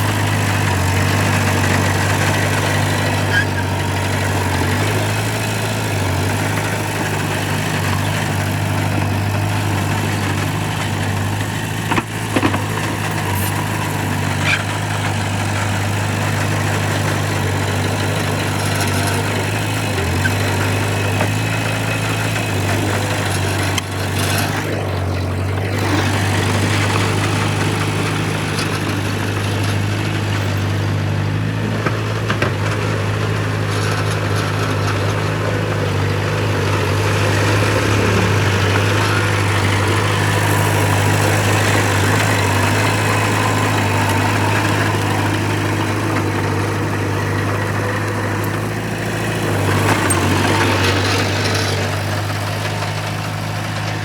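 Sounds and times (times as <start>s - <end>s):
diesel machine engine running: 0.0s - 54.0s.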